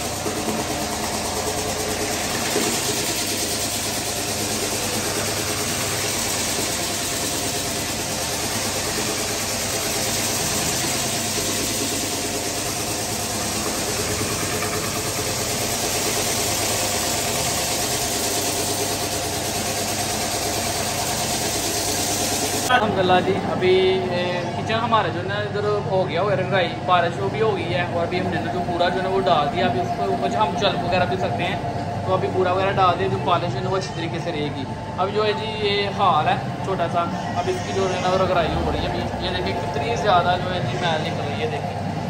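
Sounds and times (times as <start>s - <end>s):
floor grinding machine motor hum: 0.0s - 24.4s, 25.0s - 42.0s.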